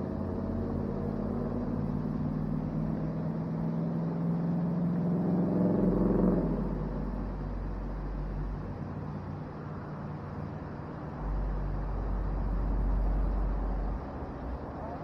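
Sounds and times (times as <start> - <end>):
vehicle engine droning past: 0.0 - 15.0.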